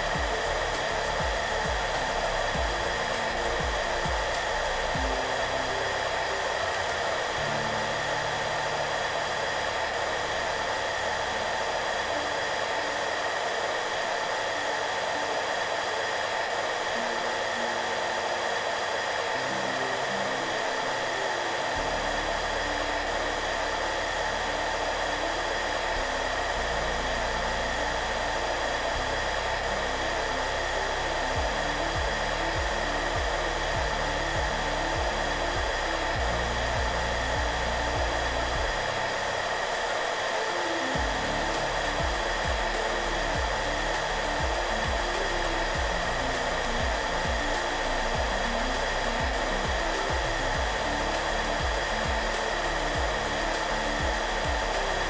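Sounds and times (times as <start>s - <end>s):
hairdryer running: 0.0s - 55.0s
soft background music: 0.0s - 55.0s.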